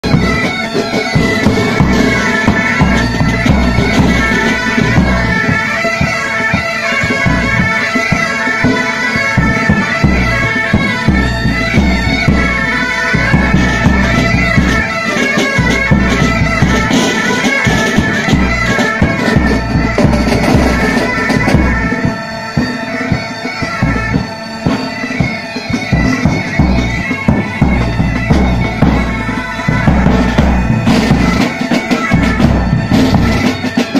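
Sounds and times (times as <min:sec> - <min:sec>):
bagpipes playing: 0:00.0 - 0:33.9
snare and bass drums: 0:00.0 - 0:33.9.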